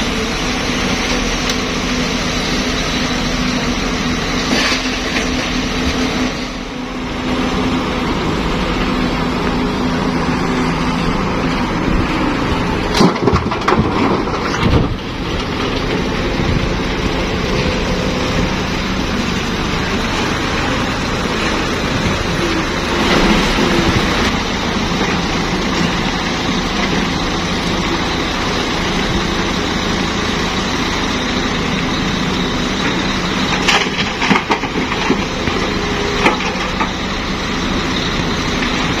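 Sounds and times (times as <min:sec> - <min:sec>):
heavy diesel machinery running: 0:00.0 - 0:39.0.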